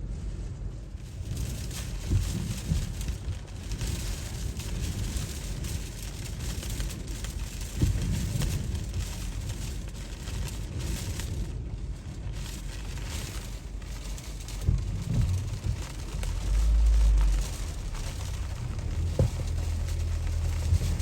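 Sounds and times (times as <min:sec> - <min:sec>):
wind buffeting microphone: 0:00.1 - 0:21.0
rain hiss: 0:00.9 - 0:21.0.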